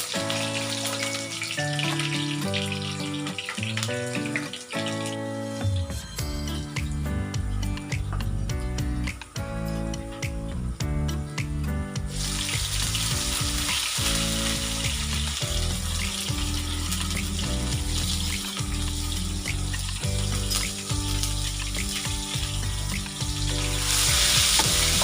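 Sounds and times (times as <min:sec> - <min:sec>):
food sizzling in hot oil: 0:00.0 - 0:11.3, 0:11.9 - 0:25.0
background music: 0:00.0 - 0:25.0.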